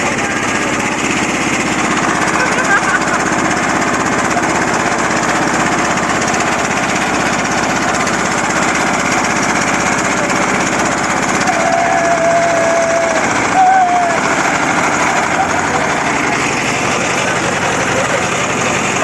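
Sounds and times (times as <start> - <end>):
motor boat engine chugging: 0.0 - 19.0.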